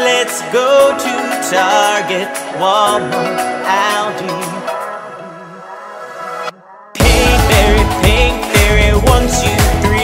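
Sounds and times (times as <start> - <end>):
loud music with heavy beat: 0.0 - 10.0.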